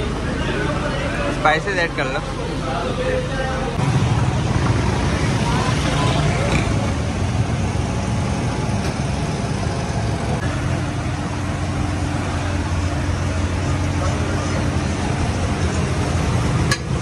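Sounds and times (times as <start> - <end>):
roadside traffic: 0.0 - 17.0.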